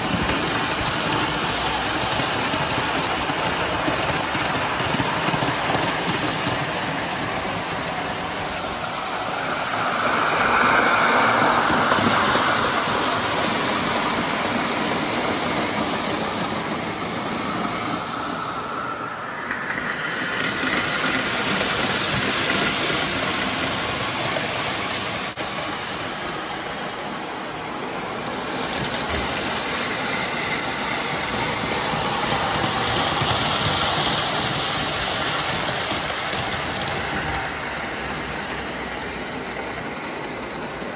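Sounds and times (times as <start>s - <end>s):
model train wheels rolling: 0.0s - 40.9s.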